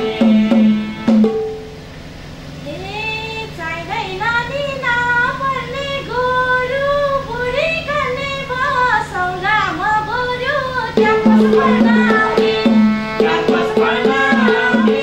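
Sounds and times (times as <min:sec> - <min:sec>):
woman singing folk melody: 0:02.6 - 0:15.0.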